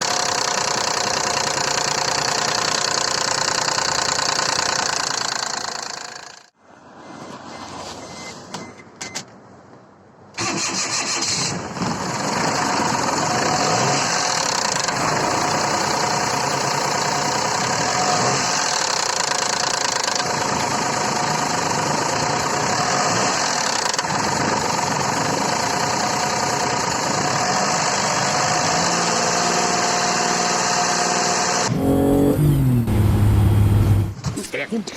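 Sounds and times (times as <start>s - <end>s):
car engine starting and running: 0.0s - 6.5s, 10.3s - 34.9s.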